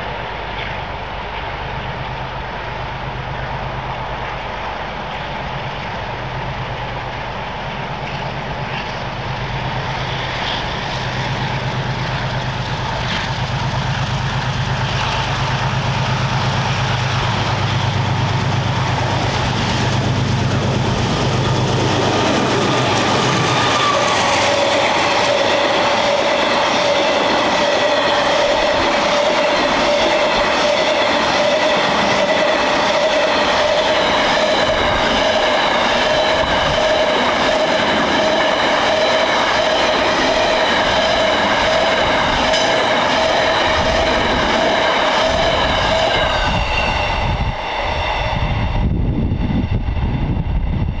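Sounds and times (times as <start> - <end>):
train wheels clickety-clack: 0.0 - 2.2, 4.2 - 50.2.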